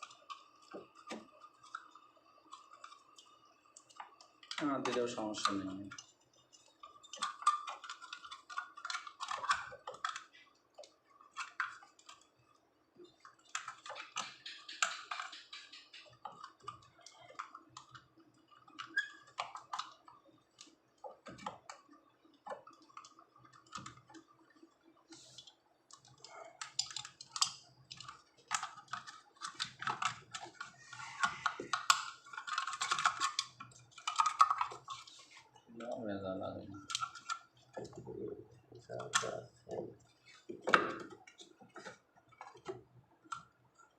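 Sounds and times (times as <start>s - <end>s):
small parts and tools clicking: 0.0s - 43.9s.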